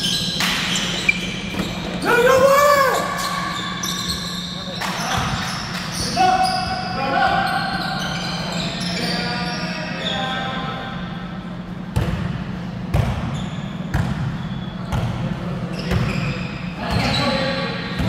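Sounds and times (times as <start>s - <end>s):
low hum in large hall: 0.0s - 18.0s.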